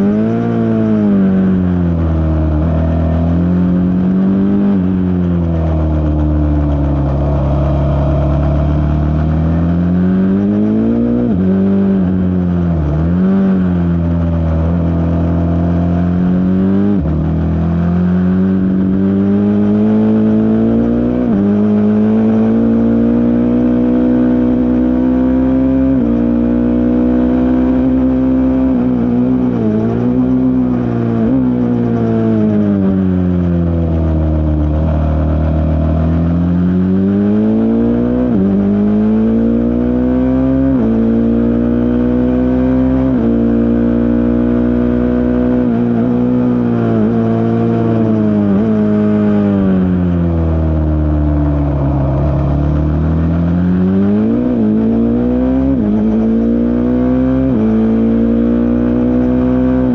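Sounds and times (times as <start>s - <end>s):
race car engine at full throttle: 0.0s - 59.9s.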